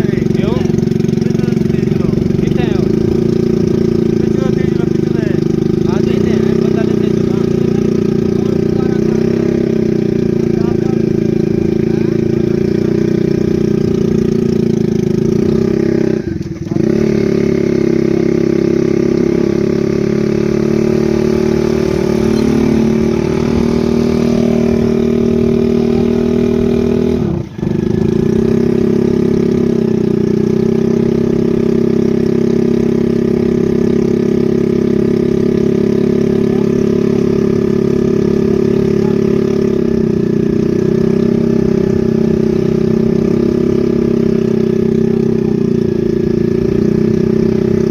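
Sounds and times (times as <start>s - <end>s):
engine running steadily: 0.0s - 47.9s.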